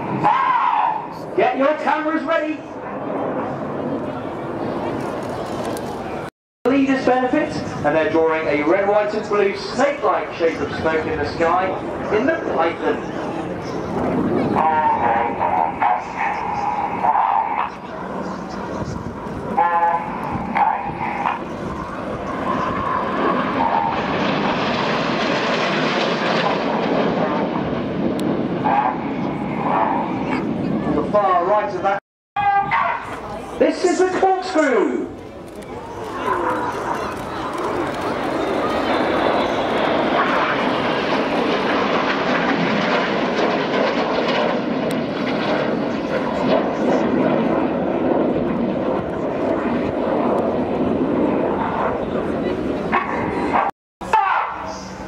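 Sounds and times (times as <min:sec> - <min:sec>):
jet engines flying past: 0:00.0 - 0:55.0.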